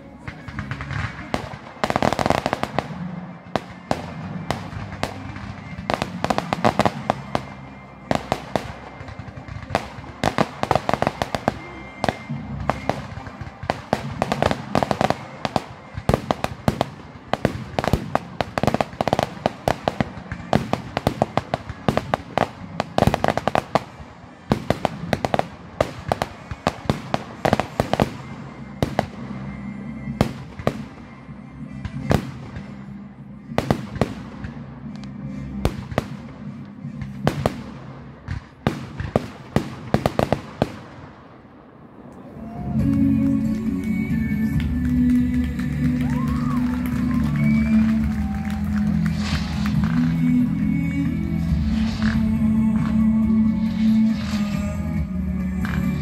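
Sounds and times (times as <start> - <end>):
fireworks crackling and popping: 0.0 - 56.0.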